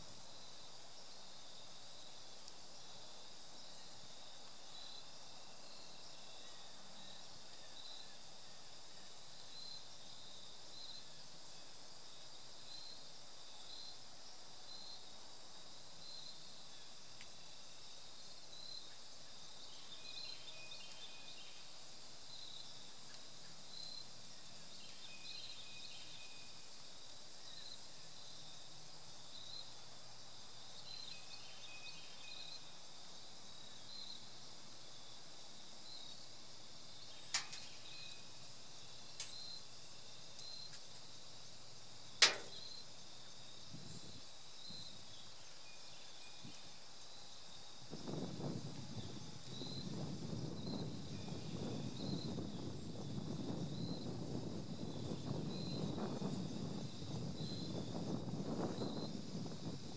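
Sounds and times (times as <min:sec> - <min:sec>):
insect chirping: 0:00.0 - 0:59.9
insects chorus: 0:00.0 - 0:59.9.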